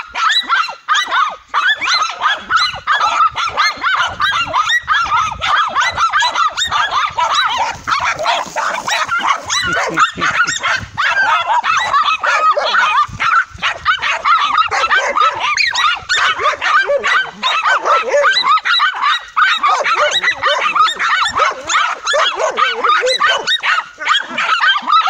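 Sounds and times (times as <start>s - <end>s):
dogs barking and yapping: 0.0s - 25.0s.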